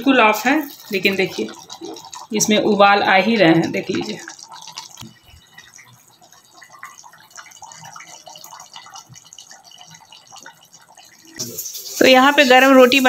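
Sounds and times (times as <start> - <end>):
thick gravy bubbling and popping: 0.0 - 13.0.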